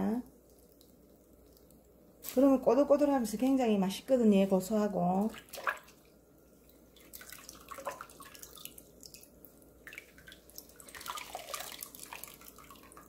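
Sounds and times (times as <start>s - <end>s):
water dripping into a bowl: 0.0s - 2.6s, 5.1s - 13.0s.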